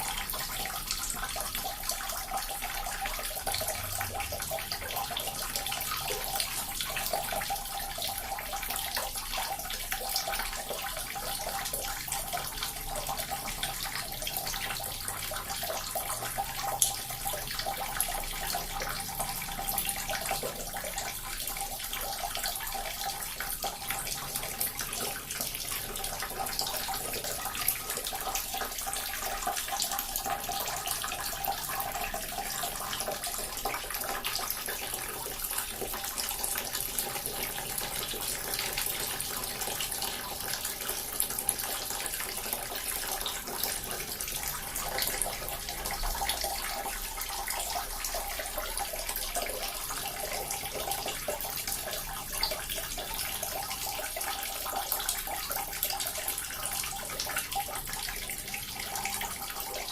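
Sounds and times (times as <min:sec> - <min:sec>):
water fountain splashing: 0:00.0 - 0:59.9.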